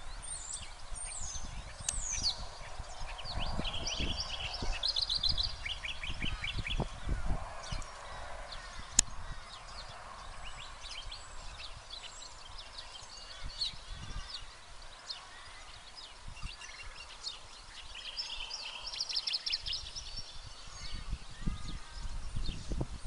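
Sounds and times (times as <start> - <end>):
birds chirping and whistling: 0.0 - 22.8.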